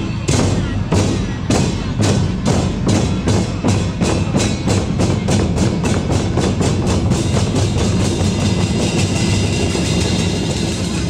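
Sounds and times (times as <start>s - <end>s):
drums beating: 0.0s - 11.0s.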